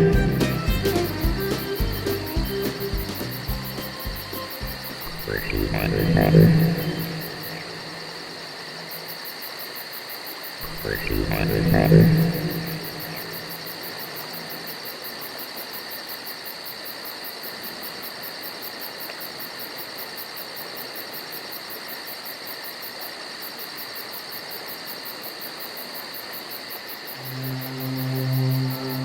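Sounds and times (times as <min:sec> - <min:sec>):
constant hiss: 0:00.0 - 0:29.0
crickets chirping: 0:00.0 - 0:29.0.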